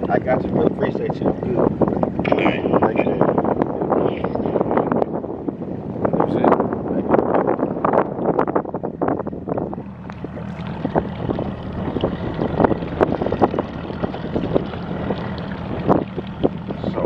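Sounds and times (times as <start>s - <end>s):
low hum: 0.0s - 17.0s
wind buffeting microphone: 0.0s - 17.0s.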